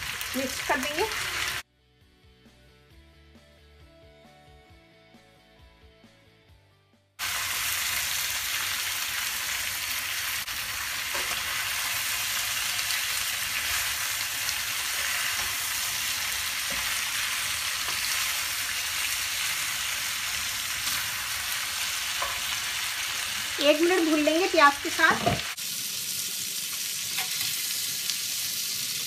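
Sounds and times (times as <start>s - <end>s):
chicken and onion sizzling in pan: 0.0s - 1.6s, 7.2s - 29.0s.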